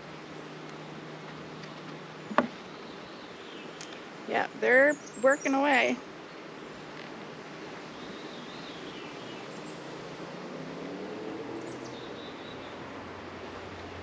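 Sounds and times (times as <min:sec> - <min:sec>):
bees buzzing: 0:00.9 - 0:12.5.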